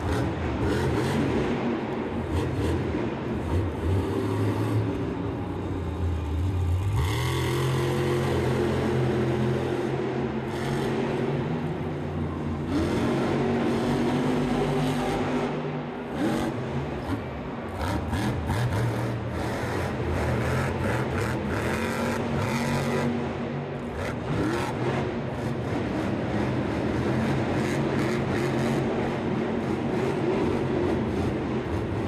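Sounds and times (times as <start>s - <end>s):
truck engines revving: 0.0s - 32.0s.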